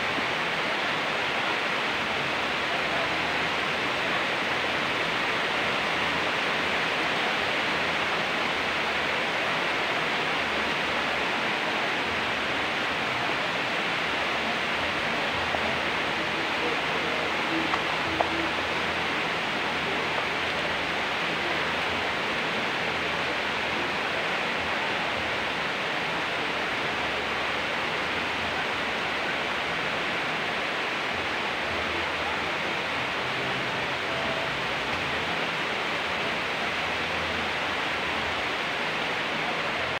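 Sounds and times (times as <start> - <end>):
rain on concrete and leaves: 0.0 - 40.0.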